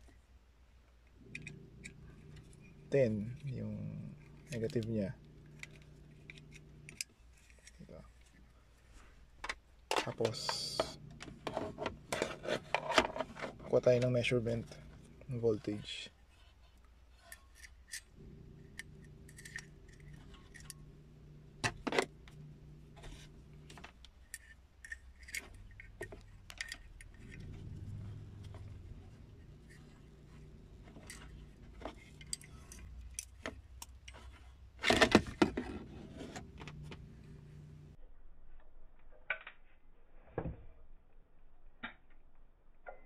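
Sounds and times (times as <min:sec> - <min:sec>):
test probes clicking and scraping on metal: 0:01.0 - 0:08.4, 0:09.4 - 0:37.0.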